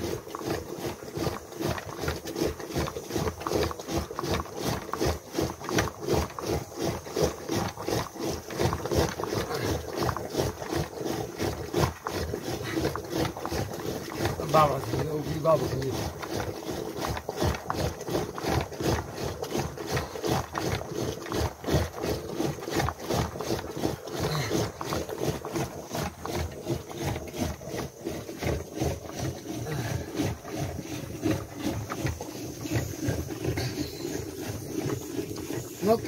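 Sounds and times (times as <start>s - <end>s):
churning stick sloshing and knocking: 0.0s - 36.0s.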